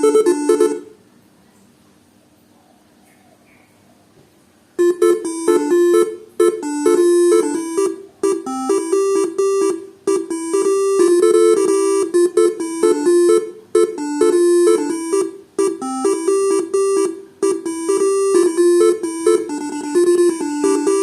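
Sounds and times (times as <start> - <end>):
bus horns playing a melody: 0.0 - 1.0, 4.8 - 21.0.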